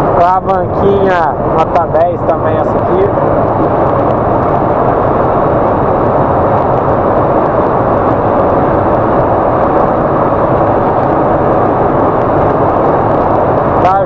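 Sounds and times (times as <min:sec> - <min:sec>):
road noise: 0:00.0 - 0:14.0
wind noise: 0:00.0 - 0:14.0.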